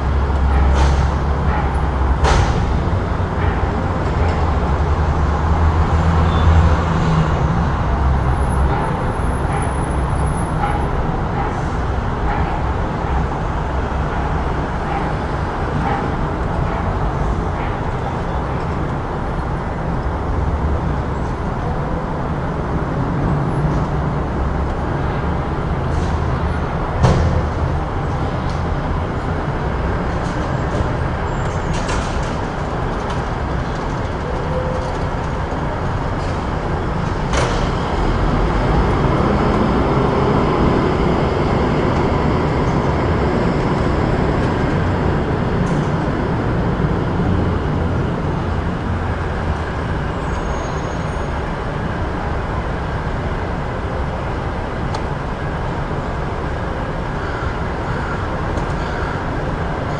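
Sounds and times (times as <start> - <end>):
low rumble of traffic: 0.0 - 59.9.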